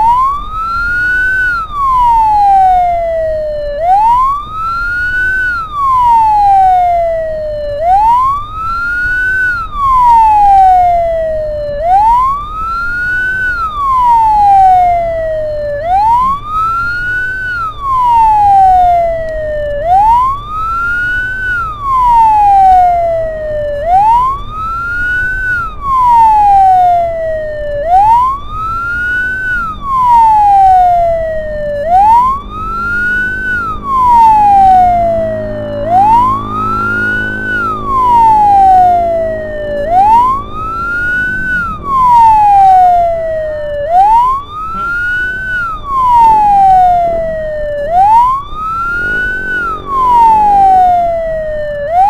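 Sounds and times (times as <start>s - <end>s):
ambulance siren wailing: 0.0s - 52.0s
engine and road rumble: 0.0s - 52.0s.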